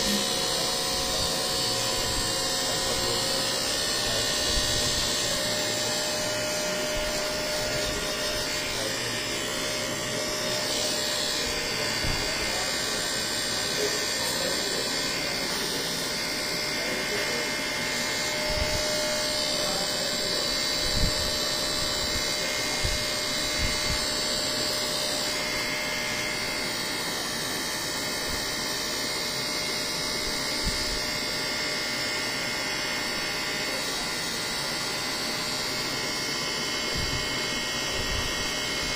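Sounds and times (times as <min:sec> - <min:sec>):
electric massager vibrating: 0:00.0 - 0:38.9.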